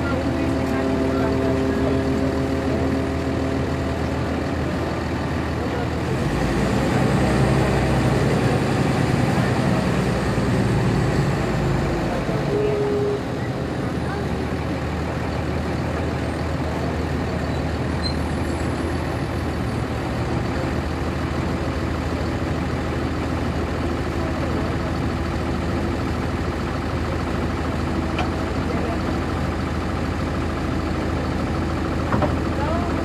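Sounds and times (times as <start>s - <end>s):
bus diesel engine running: 0.0s - 33.0s.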